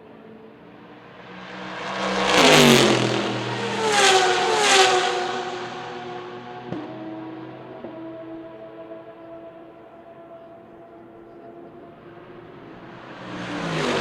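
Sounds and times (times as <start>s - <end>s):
race cars passing at full throttle: 0.0s - 14.0s.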